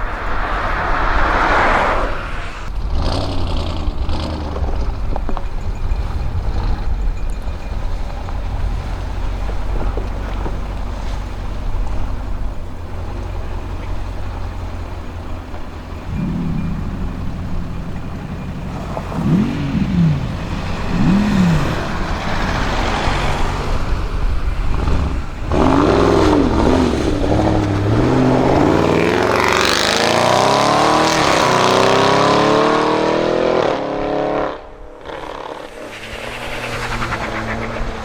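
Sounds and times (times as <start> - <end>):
car engine revving and accelerating: 0.0 - 38.0.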